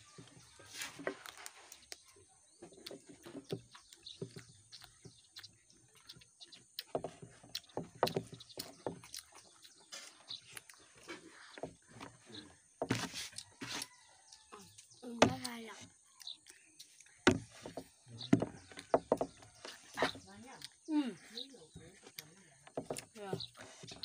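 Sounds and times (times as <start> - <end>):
boy chewing with mouth smacks: 0.3 - 12.0, 13.0 - 17.2, 18.5 - 24.0.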